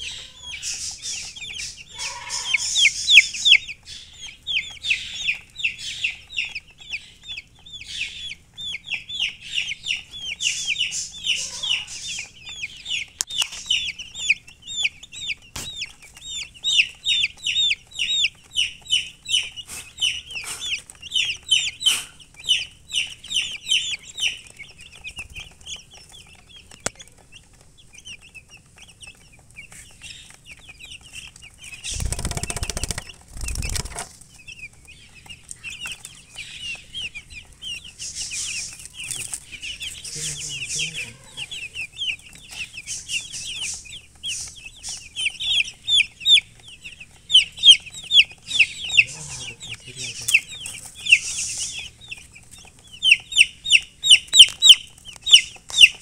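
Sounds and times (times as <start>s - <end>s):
baby chicks peeping: 0.0s - 56.0s.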